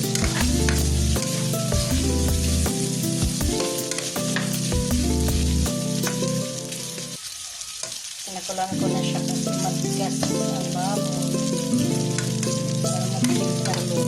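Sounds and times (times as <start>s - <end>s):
background music: 0.0s - 7.2s, 8.7s - 14.0s
stirring in a pan: 0.0s - 8.6s, 9.2s - 14.0s
meat sizzling in hot oil: 0.0s - 14.0s.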